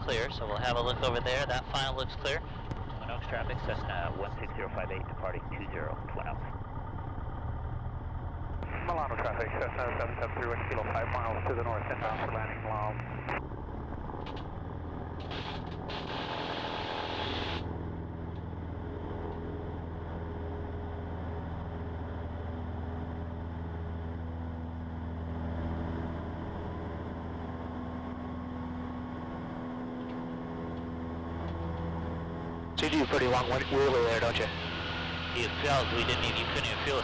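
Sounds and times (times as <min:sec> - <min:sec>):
light aircraft engine at full power: 0:00.0 - 0:37.0.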